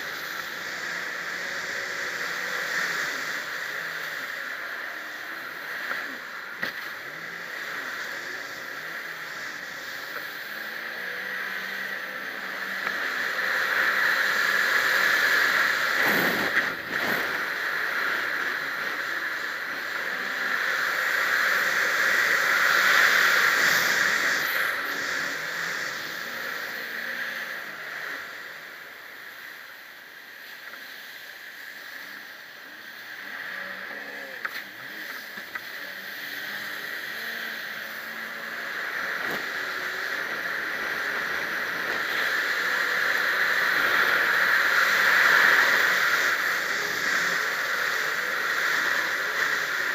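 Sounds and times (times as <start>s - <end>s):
jet ski engine running: 0.0s - 49.9s.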